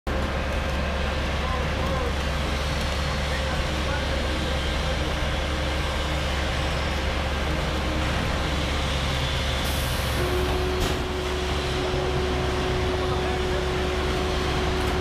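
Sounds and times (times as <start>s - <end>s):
heavy machinery engine droning: 0.1s - 15.0s.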